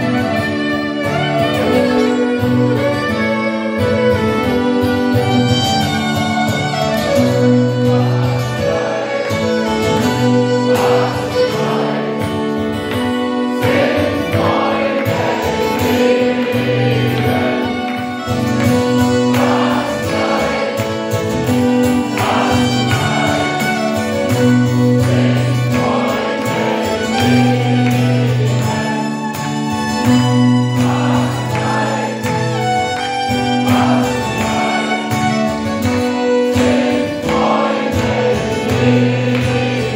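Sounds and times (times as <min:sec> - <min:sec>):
live band playing: 0:00.0 - 0:39.9
violin melody: 0:00.0 - 0:39.9.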